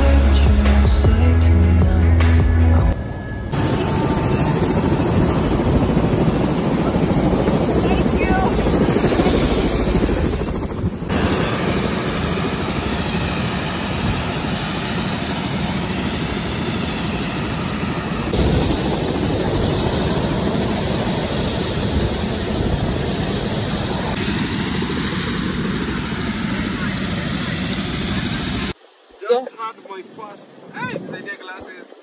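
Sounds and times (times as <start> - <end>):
helicopter rotor and engine: 2.9 - 32.0.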